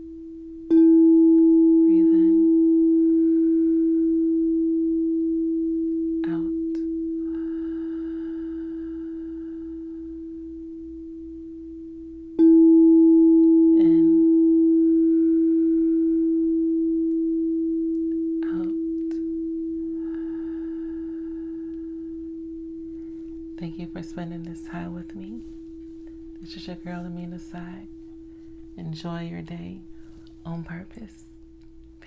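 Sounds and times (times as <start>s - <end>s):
tuning fork ringing: 0.0s - 32.0s.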